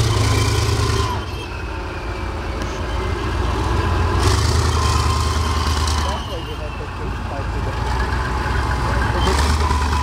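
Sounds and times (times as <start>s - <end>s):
tank diesel engine drone: 0.0s - 10.0s.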